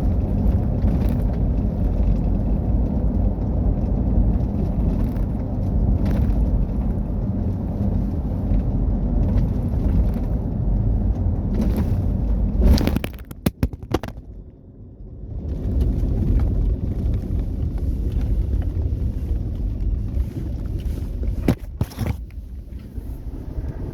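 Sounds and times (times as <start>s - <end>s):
car engine and road rumble: 0.0s - 23.9s.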